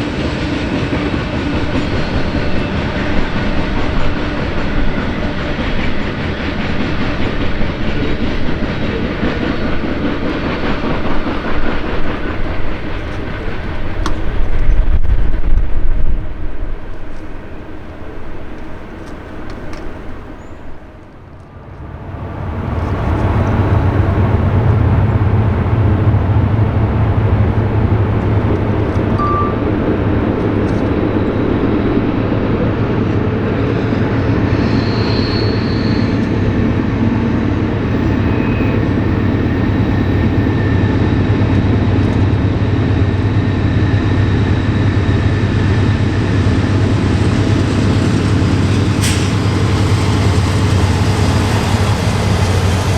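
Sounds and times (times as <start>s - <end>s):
freight train rumbling on track: 0.0s - 52.9s
high train squeal: 0.0s - 52.9s.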